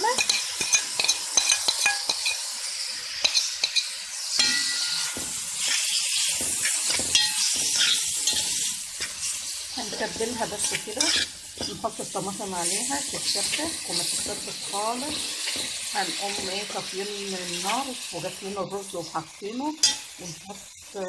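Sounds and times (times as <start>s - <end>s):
metal spoon scraping pot: 0.0s - 2.5s, 3.1s - 18.7s, 19.8s - 20.2s
onion sizzling in oil: 0.0s - 21.0s.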